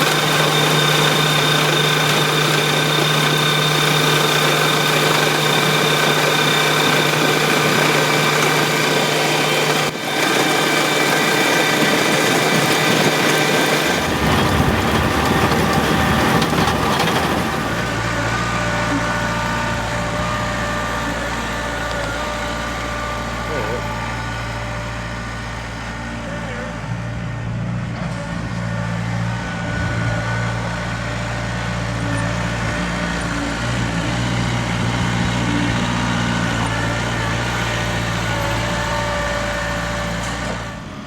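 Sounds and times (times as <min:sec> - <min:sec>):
farm machinery engine humming: 0:00.0 - 0:41.0.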